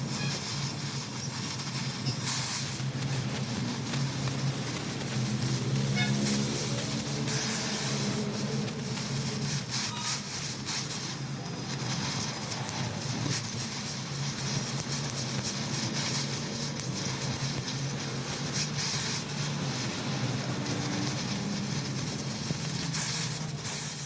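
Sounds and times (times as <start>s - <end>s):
machinery humming with hiss: 0.0s - 24.0s.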